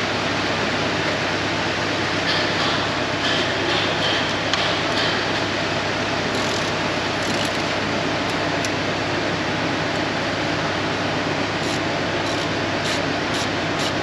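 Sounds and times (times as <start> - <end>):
rushing workshop noise: 2.2 - 14.0.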